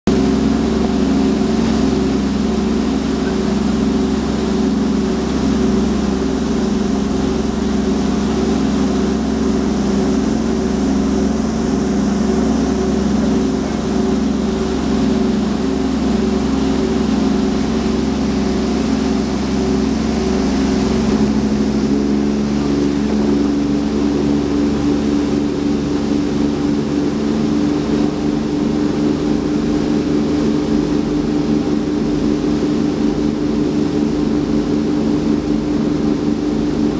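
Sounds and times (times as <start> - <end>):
boat diesel engines droning: 0.1 - 36.9
water churning in wake: 0.1 - 36.9.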